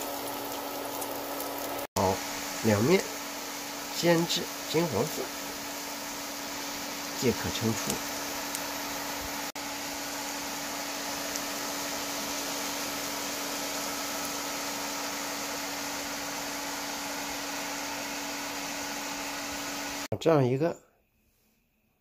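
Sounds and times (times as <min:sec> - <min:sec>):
food sizzling in oil: 0:00.0 - 0:20.1.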